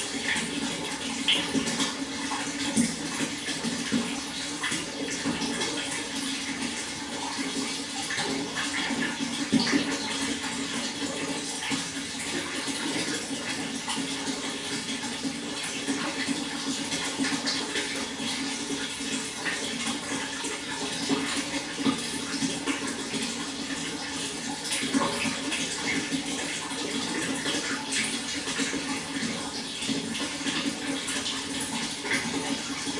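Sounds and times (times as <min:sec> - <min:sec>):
water flowing with splashes: 0:00.0 - 0:32.9.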